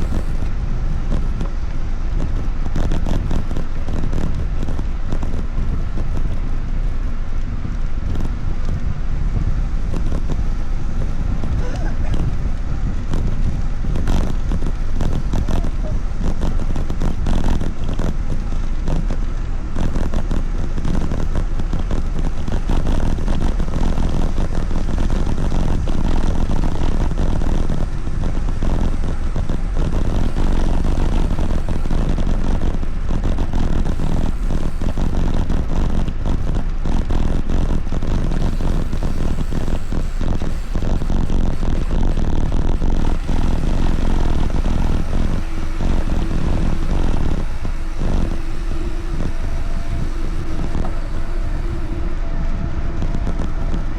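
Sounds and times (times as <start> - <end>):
wind rushing on microphone: 0.0 - 53.9.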